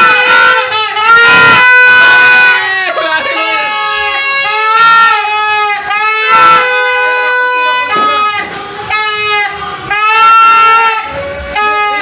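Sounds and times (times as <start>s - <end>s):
buzzy horn blasts: 0.0s - 12.0s.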